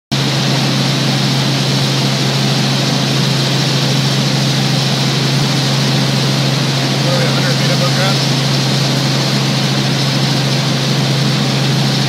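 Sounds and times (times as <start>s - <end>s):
helicopter rotor and engine drone: 0.1s - 12.0s.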